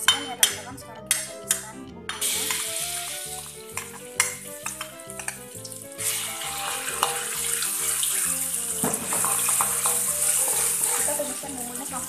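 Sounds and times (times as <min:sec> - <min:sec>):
background music: 0:00.0 - 0:12.0
spice paste sizzling in oil: 0:01.2 - 0:12.0.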